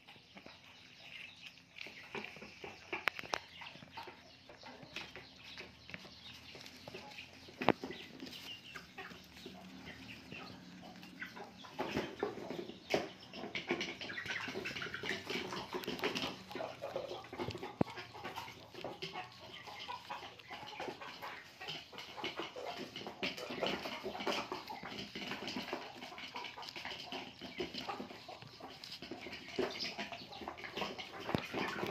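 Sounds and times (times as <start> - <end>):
small clicks and crackles: 0.0 - 12.1, 13.3 - 31.9
puppies chewing and smacking: 0.0 - 31.9.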